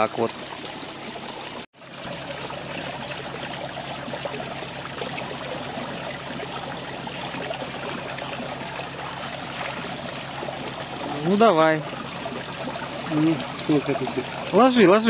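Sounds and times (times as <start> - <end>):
water splashing into pond: 0.0 - 15.0.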